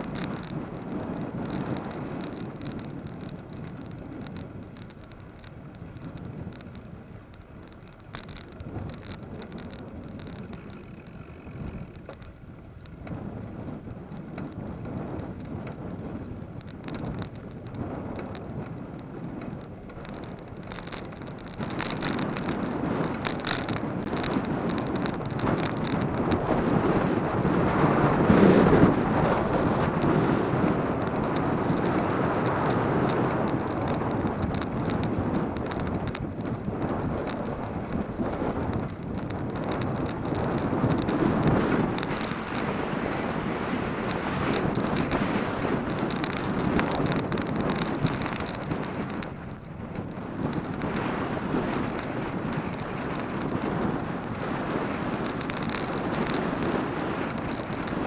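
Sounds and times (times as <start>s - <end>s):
bicycle road noise: 0.0s - 58.0s
light clicks and rattles: 0.0s - 58.0s
wind rumble: 0.0s - 58.0s.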